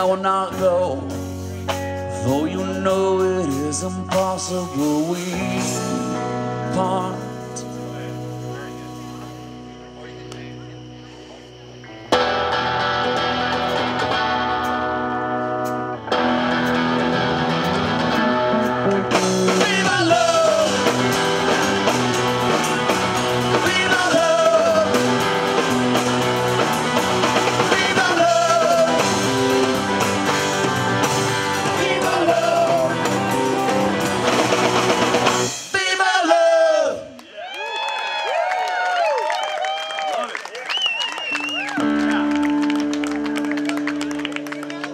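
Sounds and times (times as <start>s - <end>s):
electric guitars ringing chords: 0.0s - 35.7s, 41.6s - 44.9s
bass and drums beat: 0.0s - 36.2s.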